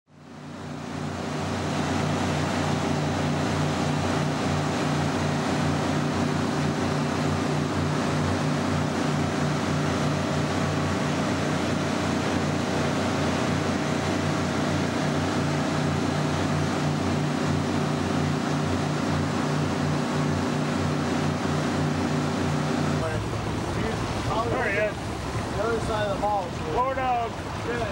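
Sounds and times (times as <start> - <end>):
boat engine humming: 0.1 - 27.9
water rushing in wake: 0.1 - 27.9.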